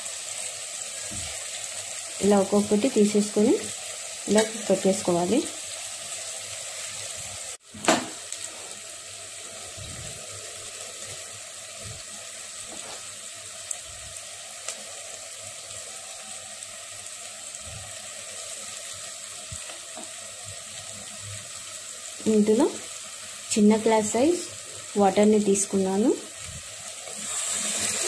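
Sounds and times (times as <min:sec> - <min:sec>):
curry sizzling in pot: 0:00.0 - 0:28.0.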